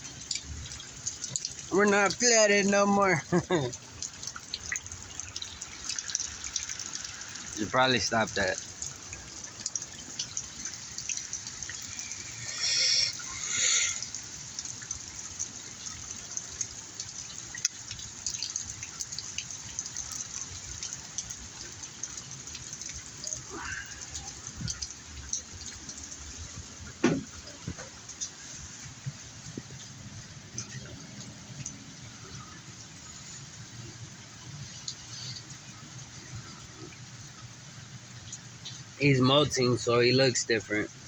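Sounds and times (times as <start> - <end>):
rainwater dripping and trickling: 0.0 - 41.0.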